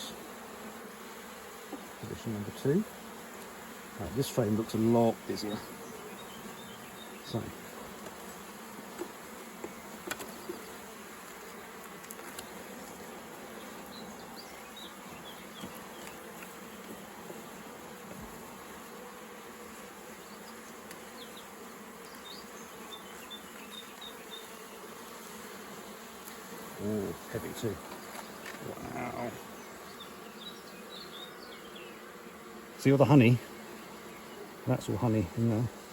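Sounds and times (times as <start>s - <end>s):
bees buzzing: 0.0s - 35.9s.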